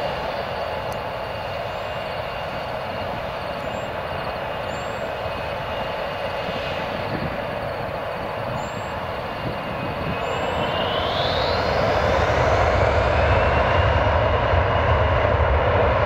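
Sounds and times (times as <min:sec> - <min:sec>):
jet engines whining: 0:00.0 - 0:16.0.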